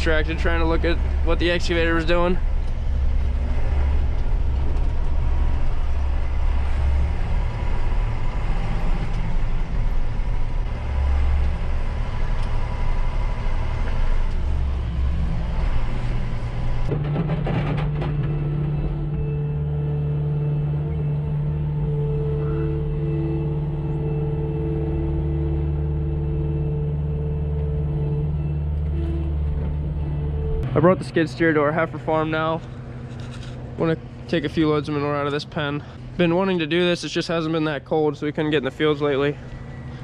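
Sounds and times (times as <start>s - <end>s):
skid steer engine running: 0.0s - 40.0s
tractor engine droning: 0.0s - 40.0s.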